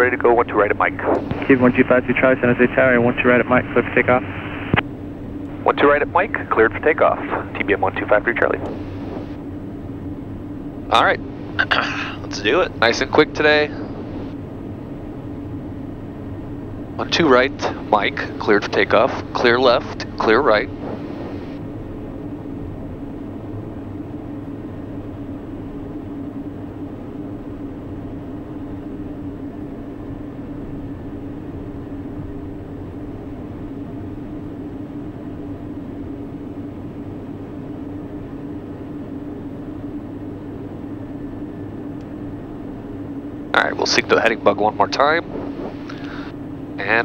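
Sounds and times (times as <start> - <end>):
turboprop engine drone: 0.0 - 47.0.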